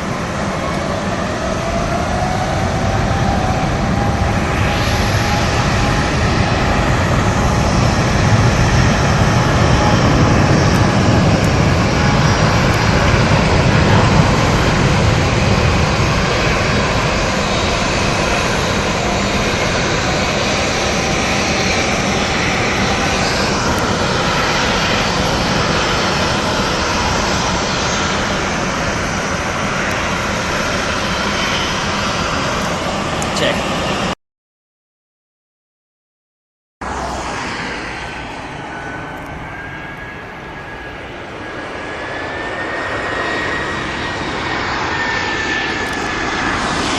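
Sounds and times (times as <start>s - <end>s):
jet airliner engines rushing: 0.0s - 34.2s, 36.8s - 46.9s.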